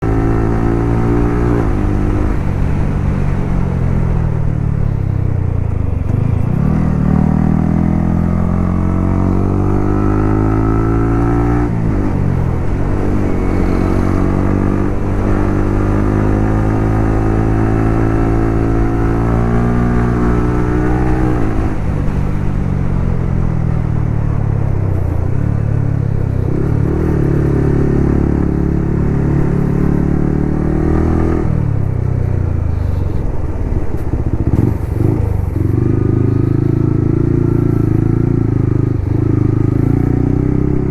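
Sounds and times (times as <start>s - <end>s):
motorcycle engine revving: 0.0s - 4.2s, 5.8s - 40.9s.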